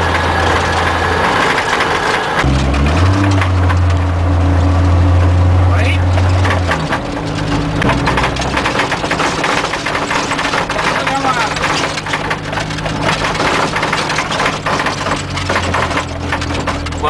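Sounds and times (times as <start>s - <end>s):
vehicle body rattling and knocking: 0.0s - 17.0s
vehicle engine: 0.0s - 17.0s.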